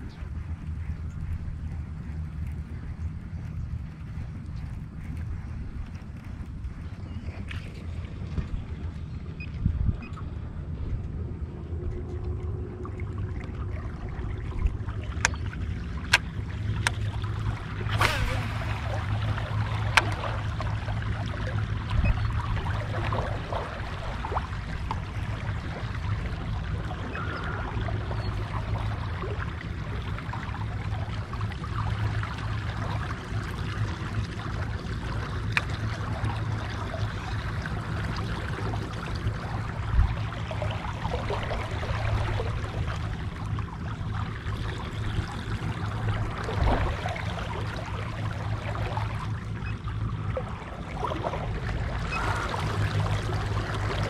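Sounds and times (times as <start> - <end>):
steady low hum: 0.0 - 54.0
water lapping against kayak hull: 0.0 - 54.0.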